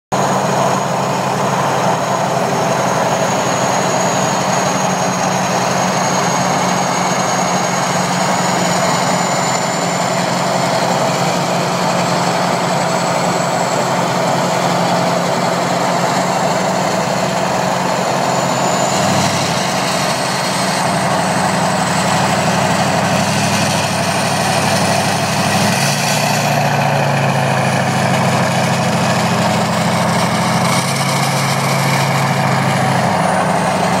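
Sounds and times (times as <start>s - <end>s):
diesel engine idling: 0.1s - 34.0s.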